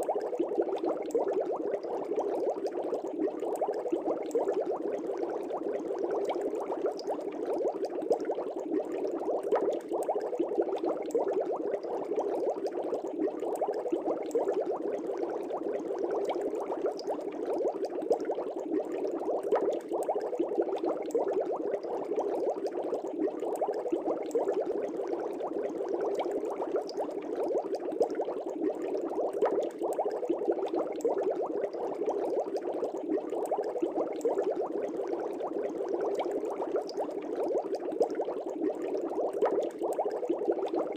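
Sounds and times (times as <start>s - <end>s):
aquarium air bubbling: 0.0s - 40.9s.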